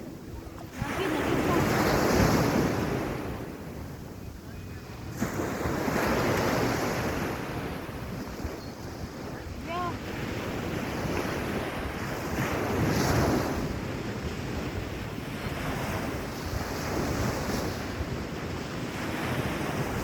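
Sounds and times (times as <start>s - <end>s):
sea waves on sand beach: 0.0s - 20.0s
wind buffeting microphone: 0.0s - 20.0s.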